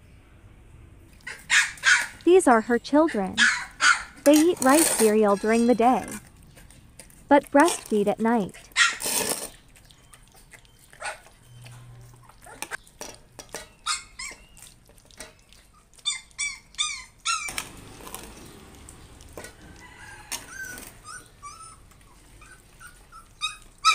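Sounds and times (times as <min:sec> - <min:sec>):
puppies whimpering and squealing: 0:01.2 - 0:06.6, 0:08.5 - 0:12.8, 0:13.6 - 0:23.9.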